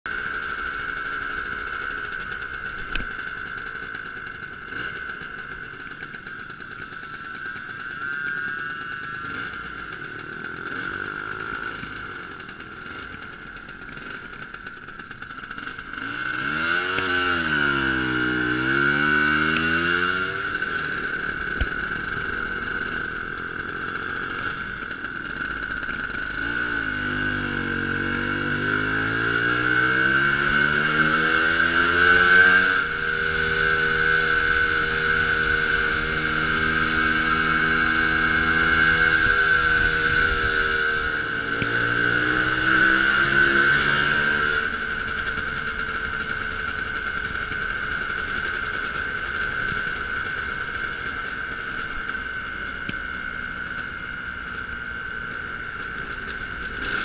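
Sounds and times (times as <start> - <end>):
motor scooter engine running: 0.1 - 57.0.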